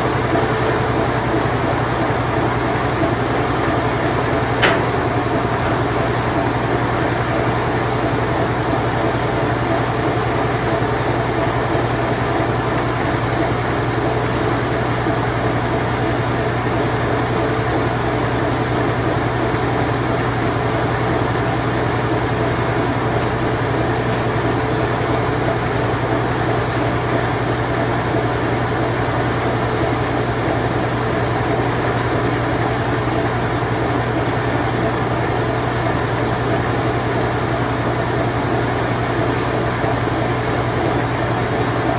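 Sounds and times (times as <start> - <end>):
washing machine spin cycle: 0.0 - 41.9.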